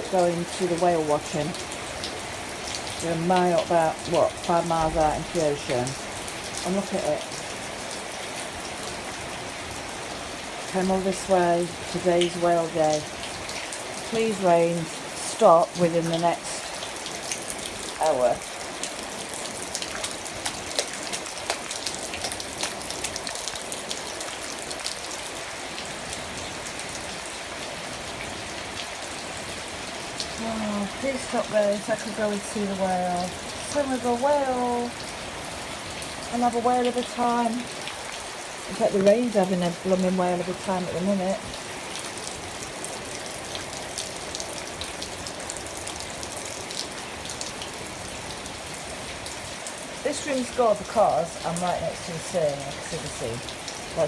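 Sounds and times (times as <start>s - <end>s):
heavy rain falling: 0.0s - 54.0s
sharp close raindrops striking: 0.0s - 54.0s.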